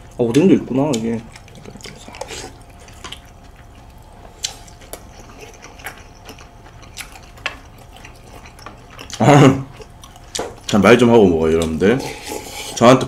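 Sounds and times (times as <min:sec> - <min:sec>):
chewing: 0:00.0 - 0:12.9
faint steady hum: 0:00.0 - 0:13.0.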